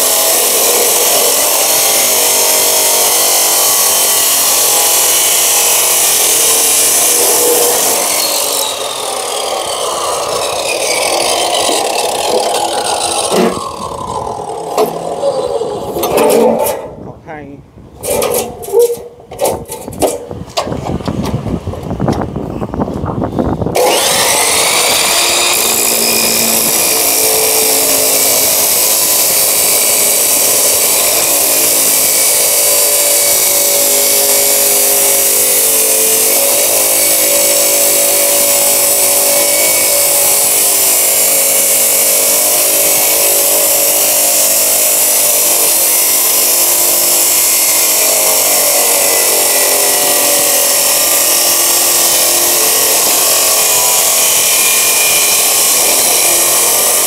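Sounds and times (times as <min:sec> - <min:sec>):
abrasive saw cutting steel: 0:00.0 - 0:17.0, 0:18.0 - 0:20.3, 0:23.7 - 0:57.0.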